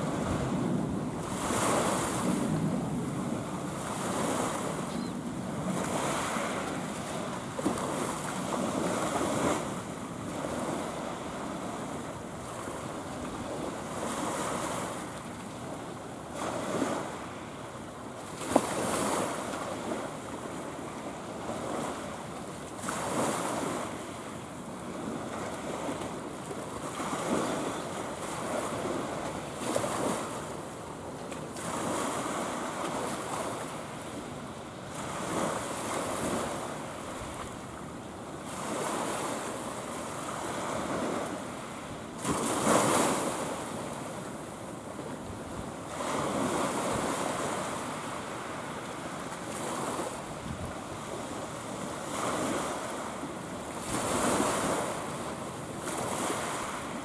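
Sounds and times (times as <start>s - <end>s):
small waves washing in: 0.0s - 57.0s.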